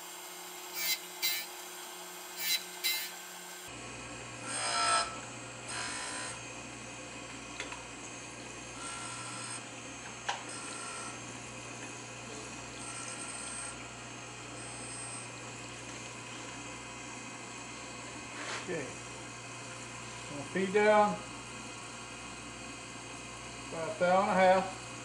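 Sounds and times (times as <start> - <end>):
grinder machine humming: 0.0 - 25.0.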